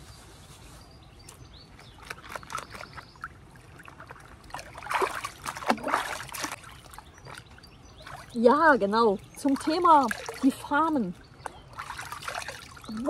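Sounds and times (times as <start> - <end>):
water splashing: 2.0 - 13.0.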